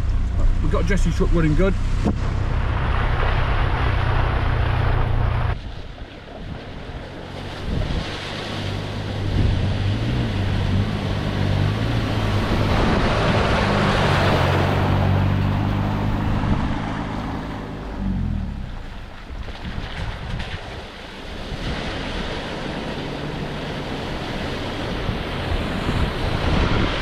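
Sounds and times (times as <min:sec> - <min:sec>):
truck engine driving: 0:00.0 - 0:27.0
wind and road noise: 0:00.0 - 0:27.0.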